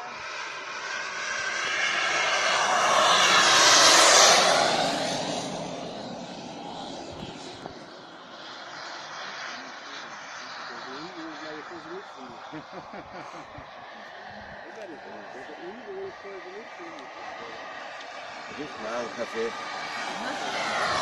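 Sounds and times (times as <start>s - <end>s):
jet turbine rush and whine: 0.0s - 21.0s.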